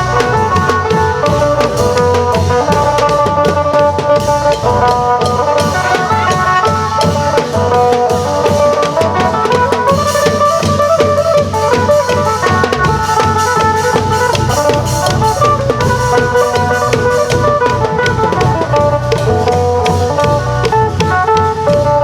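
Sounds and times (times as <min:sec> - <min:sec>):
long drums driving rhythm: 0:00.0 - 0:22.0.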